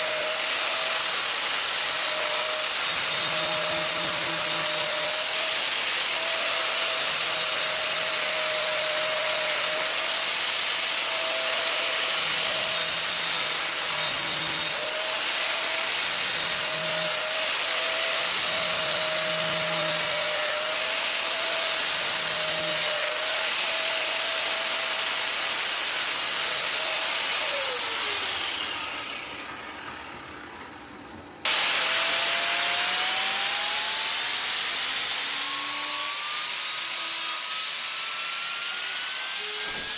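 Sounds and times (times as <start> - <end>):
power tool shaping wood: 0.0 - 39.9.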